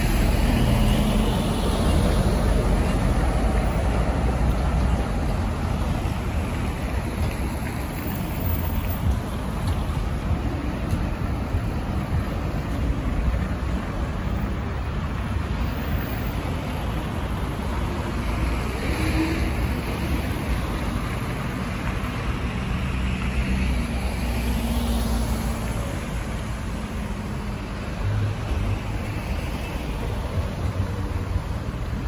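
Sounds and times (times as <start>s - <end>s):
cars driving by: 0.0s - 32.0s.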